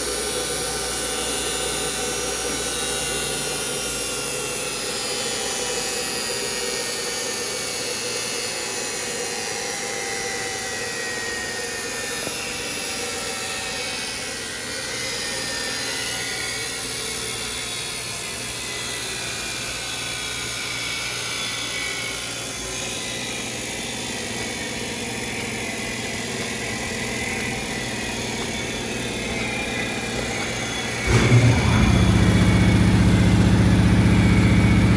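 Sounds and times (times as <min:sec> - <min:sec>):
grinder machine whining: 0:00.0 - 0:34.9.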